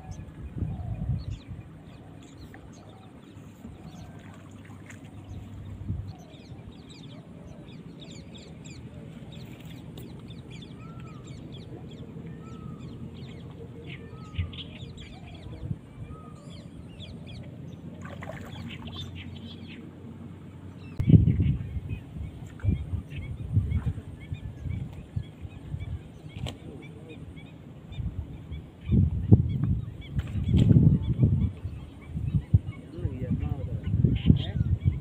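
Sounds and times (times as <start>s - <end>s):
birds chirping and calling: 0.0s - 35.0s
steady low rumble: 0.0s - 35.0s.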